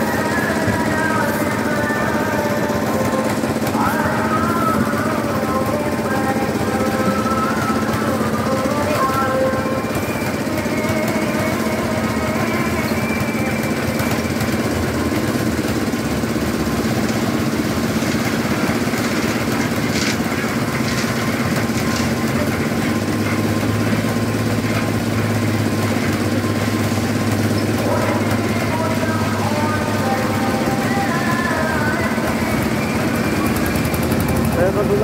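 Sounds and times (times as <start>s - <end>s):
concrete mixer engine running: 0.0s - 35.0s.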